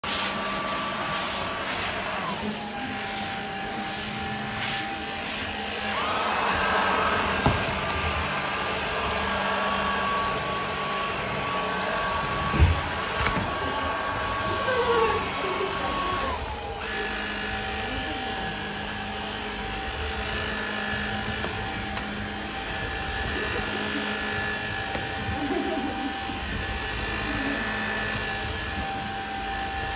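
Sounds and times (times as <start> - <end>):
stick vacuum cleaner running: 0.0 - 29.9.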